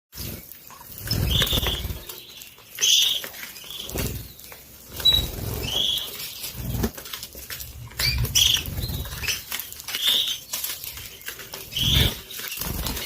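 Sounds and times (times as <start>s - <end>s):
canaries fluttering wings: 0.2s - 13.0s.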